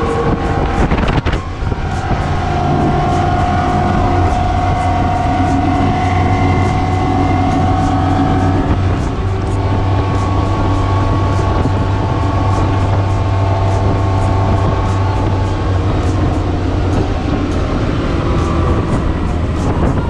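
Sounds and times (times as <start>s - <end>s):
outboard engines droning: 0.0s - 20.0s
wind: 0.0s - 20.0s.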